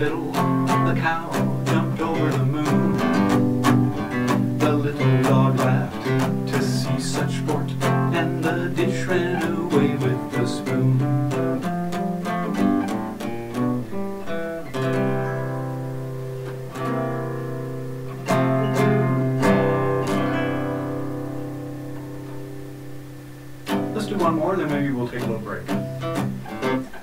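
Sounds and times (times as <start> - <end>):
acoustic guitar picking and strumming: 0.0 - 27.0.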